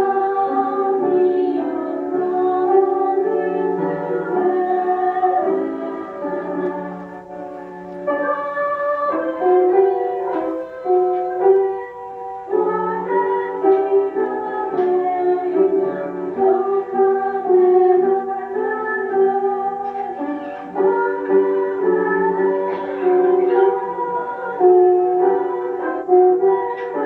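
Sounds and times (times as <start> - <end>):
keyboard playing slow melody: 0.0 - 27.0.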